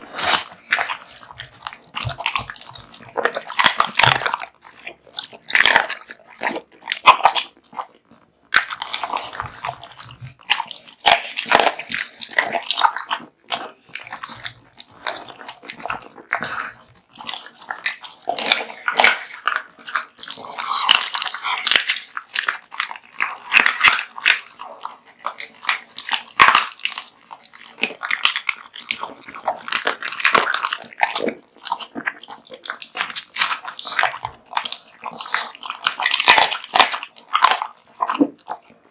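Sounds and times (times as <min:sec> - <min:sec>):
dog chewing meat and bones: 0:00.0 - 0:38.9.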